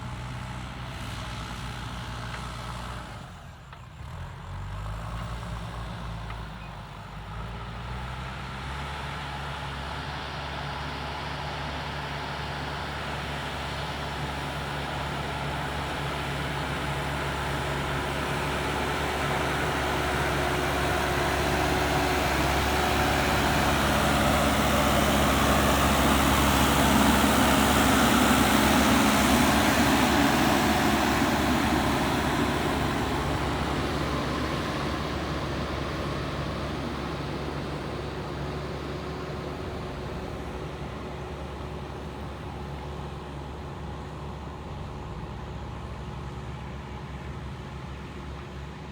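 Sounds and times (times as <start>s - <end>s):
backhoe diesel engine running: 0.0s - 48.9s.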